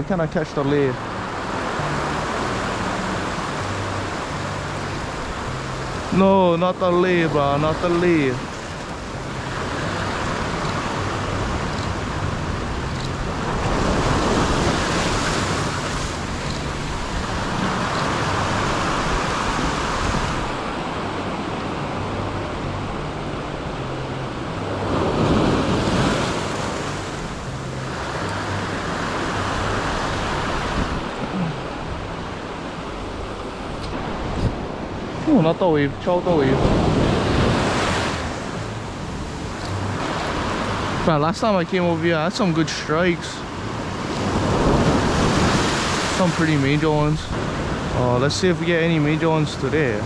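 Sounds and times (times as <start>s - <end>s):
waves breaking on rocky shore: 0.0s - 50.0s.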